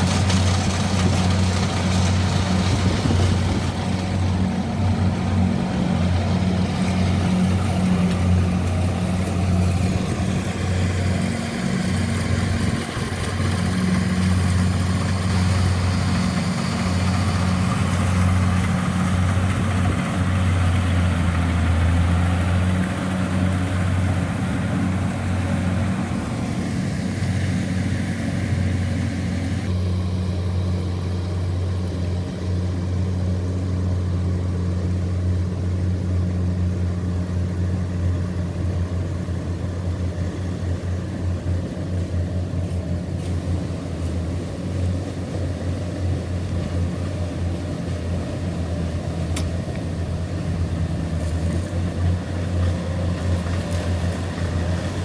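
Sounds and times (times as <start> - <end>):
combine harvester engine humming: 0.0 - 55.0.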